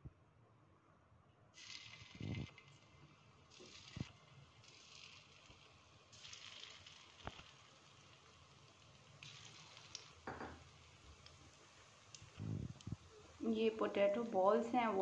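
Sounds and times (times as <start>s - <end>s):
food sizzling in hot oil: 1.6s - 15.0s.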